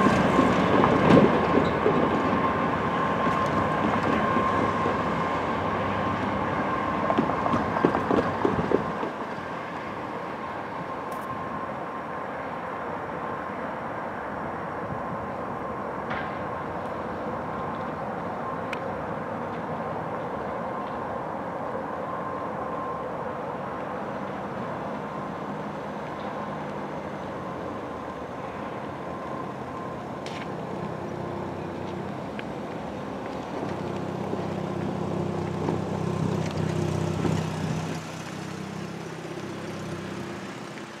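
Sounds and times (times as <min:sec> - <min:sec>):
distant train rumble: 0:00.0 - 0:41.0.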